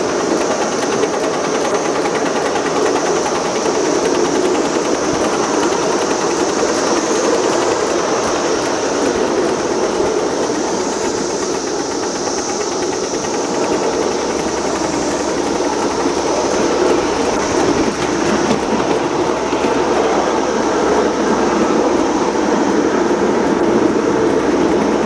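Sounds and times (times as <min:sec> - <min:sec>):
high hiss: 0:00.0 - 0:25.0
train wheels rumbling on rail: 0:00.0 - 0:25.0.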